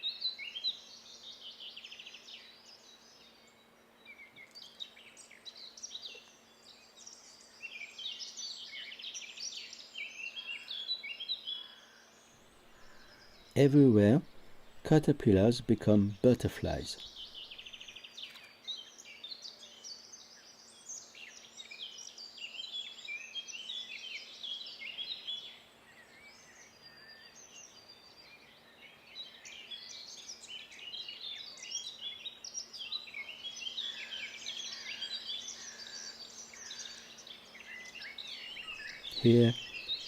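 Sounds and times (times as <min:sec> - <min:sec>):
wild birds singing: 0:00.0 - 0:40.0.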